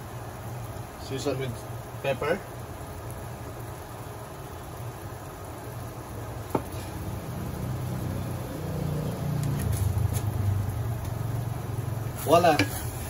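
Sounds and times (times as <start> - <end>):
pan simmering rumble: 0.0 - 13.0.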